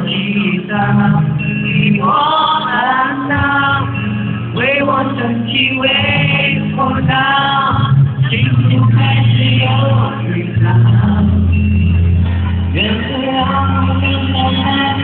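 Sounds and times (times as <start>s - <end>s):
man singing into a microphone: 0.0s - 12.0s, 12.7s - 15.0s
backing music: 0.0s - 15.0s.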